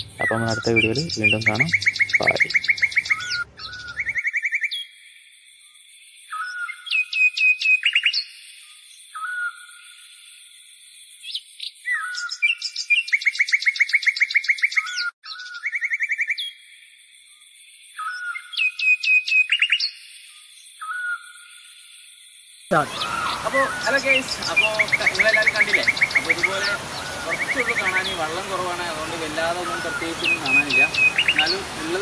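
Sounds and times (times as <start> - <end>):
bird chirps and trills: 0.0 - 32.0.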